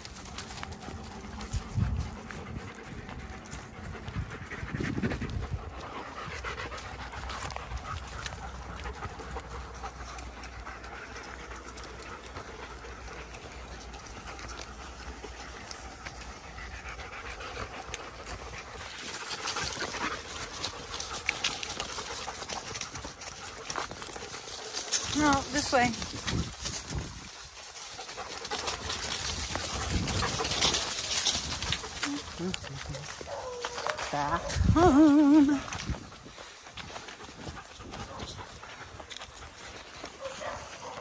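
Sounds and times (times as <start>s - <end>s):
dogs panting: 0.0s - 41.0s.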